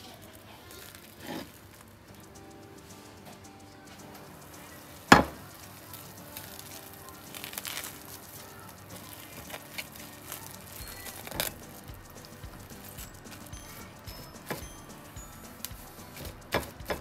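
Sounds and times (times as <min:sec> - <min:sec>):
food crackling in frying pan: 0:00.0 - 0:17.0
utensil clacking on pan: 0:00.8 - 0:17.0.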